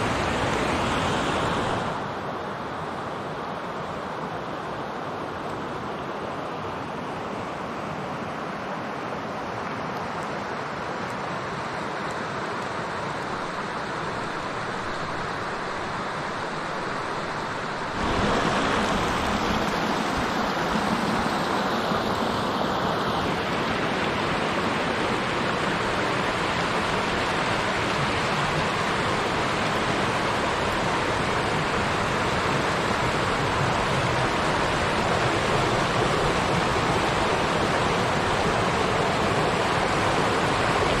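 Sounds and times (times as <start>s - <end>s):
river water rushing over rapids: 0.0s - 41.0s.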